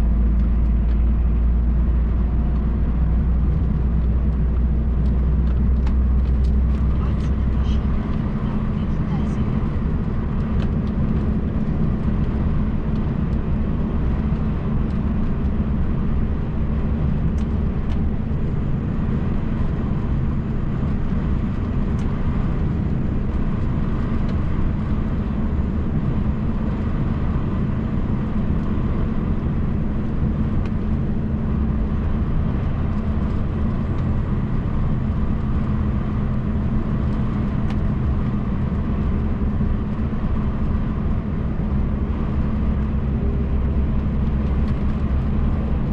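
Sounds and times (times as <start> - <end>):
truck engine and road noise: 0.0 - 45.9.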